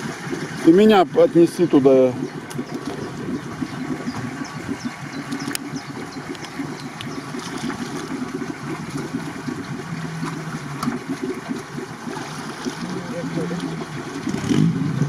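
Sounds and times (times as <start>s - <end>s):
engine running steadily: 0.0s - 15.0s
water sloshing: 0.0s - 15.0s.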